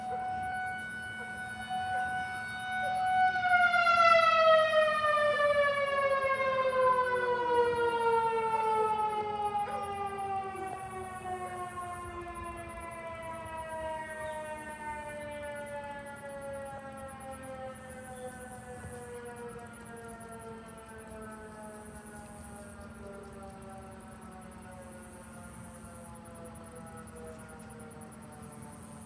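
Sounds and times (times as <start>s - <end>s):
warning siren winding down: 0.0s - 29.0s.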